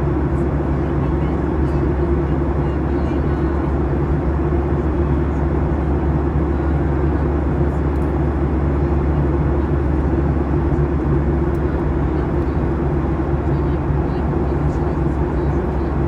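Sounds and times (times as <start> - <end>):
jet engines droning: 0.0 - 16.0.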